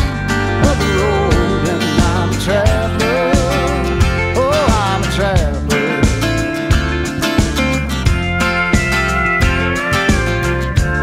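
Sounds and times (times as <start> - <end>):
instrumental country music: 0.0 - 11.0.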